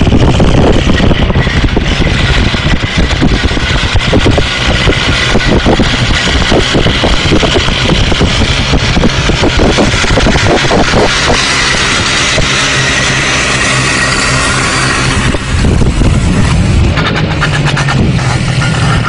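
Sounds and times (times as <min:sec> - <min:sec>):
loud rushing noise: 0:00.0 - 0:19.0
motorcycle engine running: 0:00.0 - 0:19.0.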